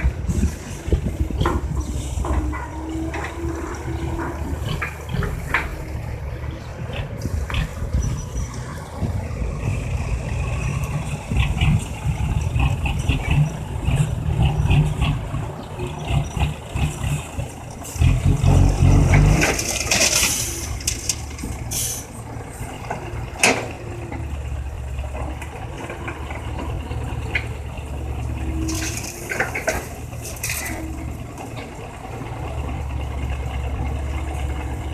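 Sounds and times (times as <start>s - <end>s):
heavy diesel engines running: 0.0s - 34.9s.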